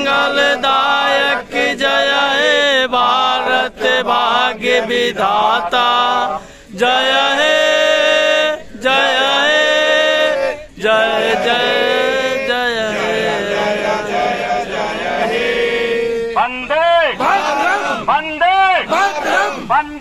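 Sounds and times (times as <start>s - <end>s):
man singing through a megaphone: 0.0s - 20.0s.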